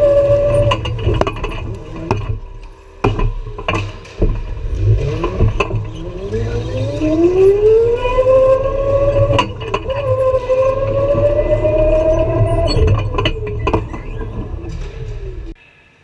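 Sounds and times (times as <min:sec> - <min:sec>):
sharp knocks: 0:00.0 - 0:15.5
go-kart engine whine: 0:00.0 - 0:15.6
low rumble: 0:00.0 - 0:15.6.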